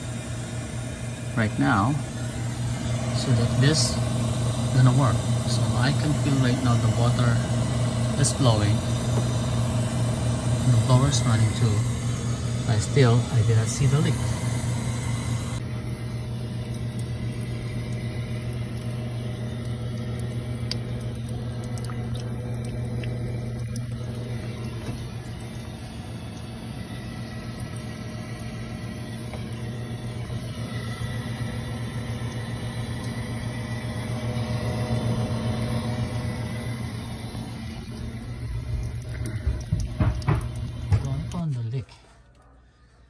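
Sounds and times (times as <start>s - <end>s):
furnace blower humming: 0.0s - 43.0s.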